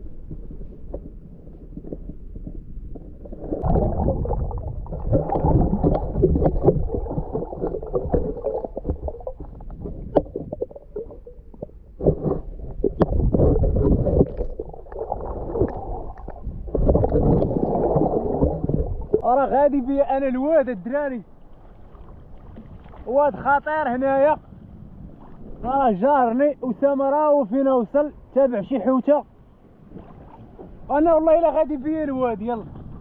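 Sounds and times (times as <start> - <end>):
muffled water sloshing and gurgling: 0.0 - 33.0.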